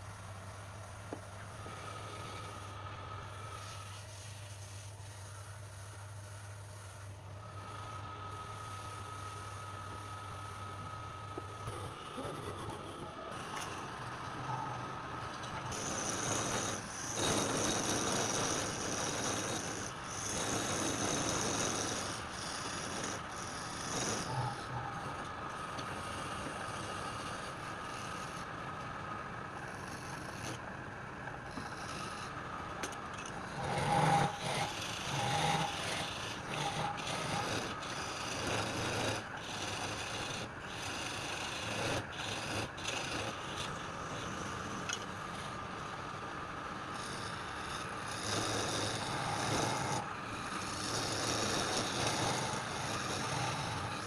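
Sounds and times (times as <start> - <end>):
motor hum: 0.0 - 54.0
wood lathe tool scraping wood: 0.9 - 28.9, 29.5 - 30.7, 31.5 - 54.0.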